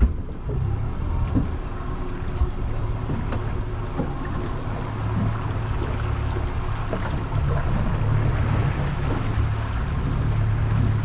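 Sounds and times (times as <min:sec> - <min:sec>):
outboard motor droning: 0:00.0 - 0:11.0
water noise: 0:00.0 - 0:11.0
wind: 0:00.0 - 0:11.0.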